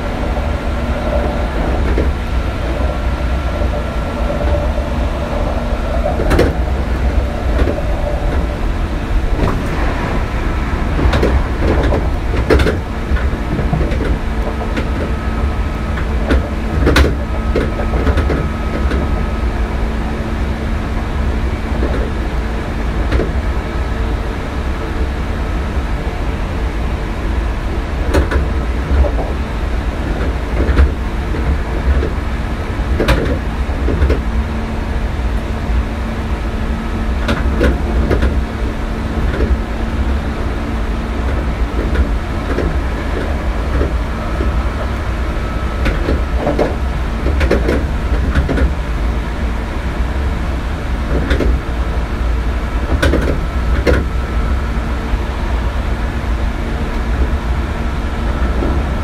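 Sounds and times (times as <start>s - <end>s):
constant hum: 0.0s - 59.0s
train rumbling: 0.0s - 59.0s.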